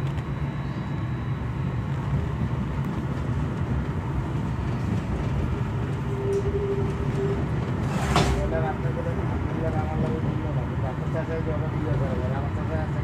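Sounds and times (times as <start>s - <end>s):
train wheels rumbling: 0.0s - 12.8s.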